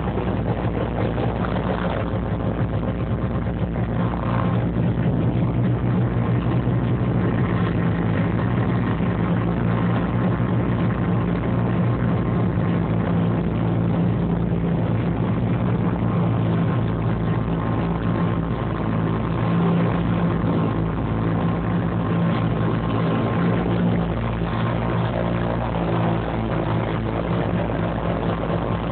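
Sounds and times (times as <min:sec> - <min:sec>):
propeller plane engines running: 0:00.0 - 0:28.9.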